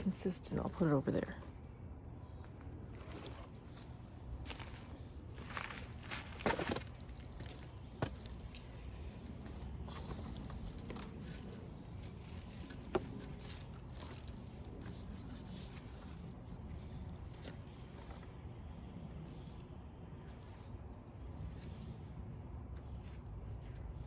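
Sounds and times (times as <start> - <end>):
crunching and scraping in soil: 0.0 - 24.0.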